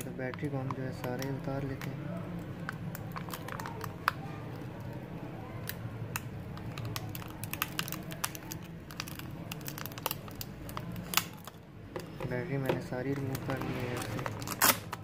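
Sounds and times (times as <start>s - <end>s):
clicks and crinkling: 0.0s - 15.0s.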